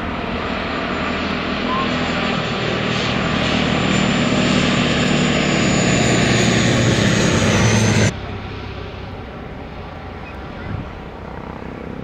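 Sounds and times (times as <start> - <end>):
turboprop aircraft propeller drone: 0.0 - 12.0.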